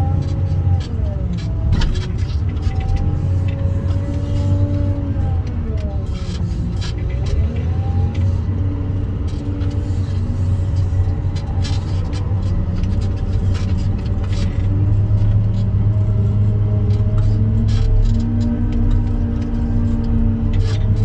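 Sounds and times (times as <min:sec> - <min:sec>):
diesel engine drone: 0:00.0 - 0:21.0
machine rattles and clicks: 0:00.0 - 0:21.0.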